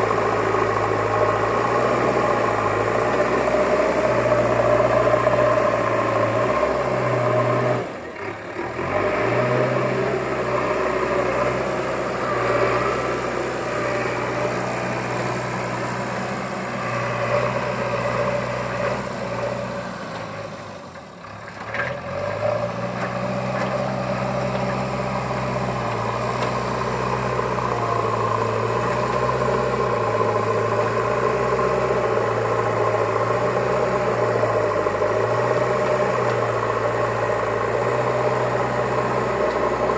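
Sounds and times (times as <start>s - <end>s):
engine-like drone: 0.0s - 39.9s.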